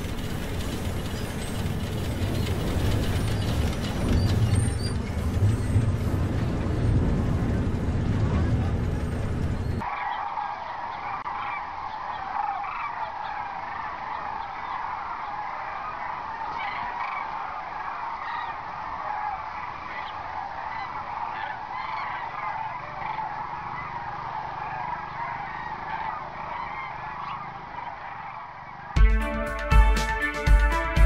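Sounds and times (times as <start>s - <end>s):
flock of birds calling: 0.0s - 6.0s, 8.4s - 30.9s.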